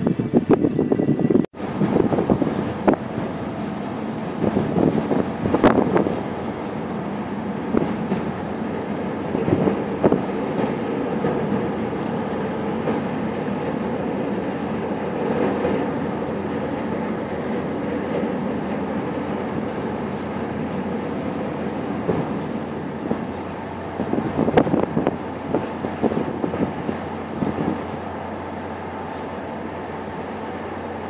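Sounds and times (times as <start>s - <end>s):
ship engines rumbling: 0.0s - 31.0s.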